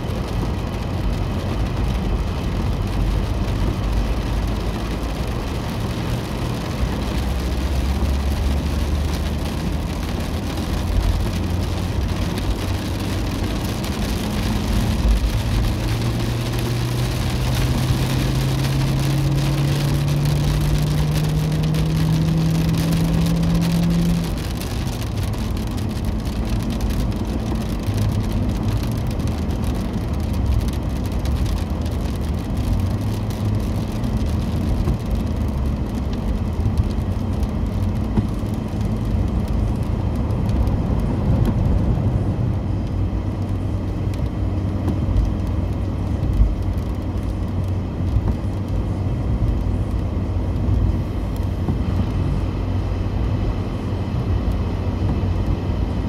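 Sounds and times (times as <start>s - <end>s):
car engine and road rumble: 0.0s - 56.0s
tyres on wet road: 0.0s - 56.0s.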